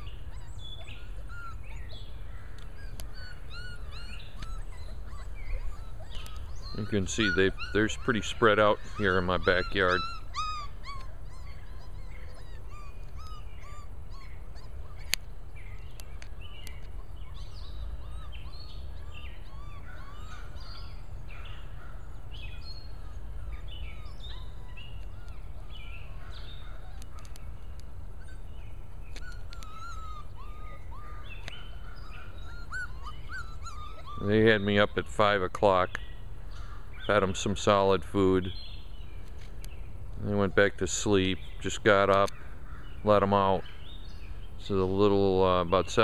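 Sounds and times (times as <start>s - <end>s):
high chirping animal calls: 0.0s - 46.0s.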